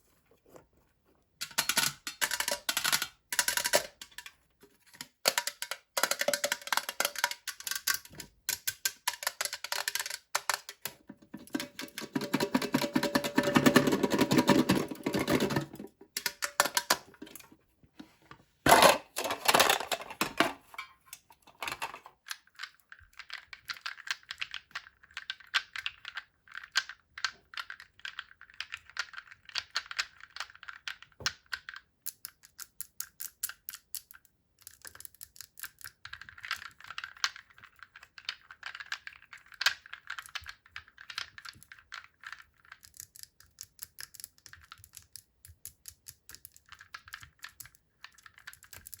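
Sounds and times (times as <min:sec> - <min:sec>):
small plastic clicks and crackles: 0:01.4 - 0:17.5, 0:21.1 - 0:49.0.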